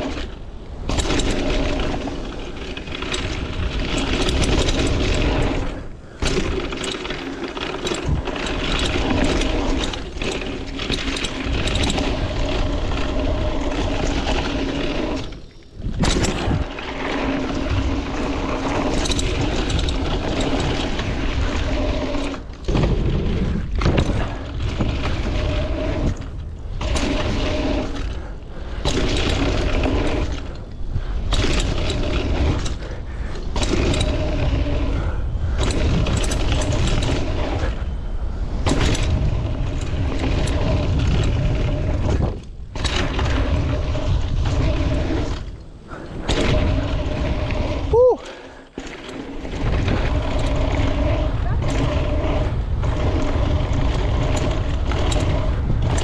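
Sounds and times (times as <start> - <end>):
bike rattling over bumps: 0.0 - 56.0
tyres rolling over dirt: 0.0 - 56.0
wind rushing over microphone: 7.5 - 56.0.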